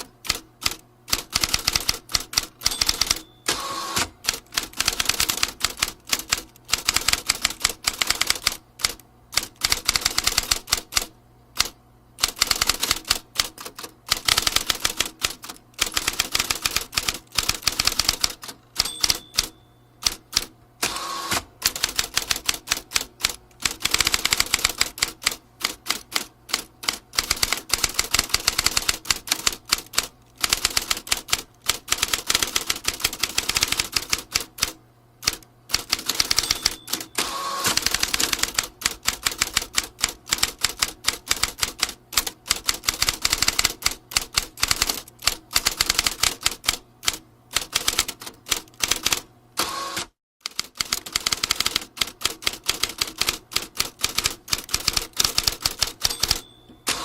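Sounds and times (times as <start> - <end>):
typewriter keys clacking: 0.0 - 3.6, 4.2 - 20.5, 21.6 - 49.2, 50.4 - 57.0.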